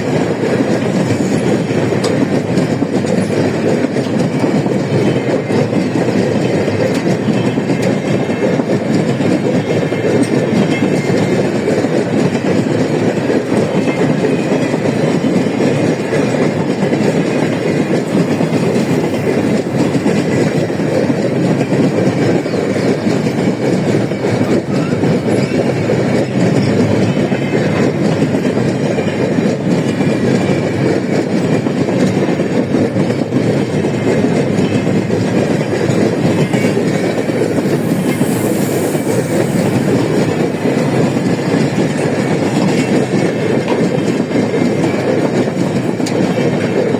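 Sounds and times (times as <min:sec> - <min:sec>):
freight train wheels rumbling on rails: 0:00.0 - 0:46.9.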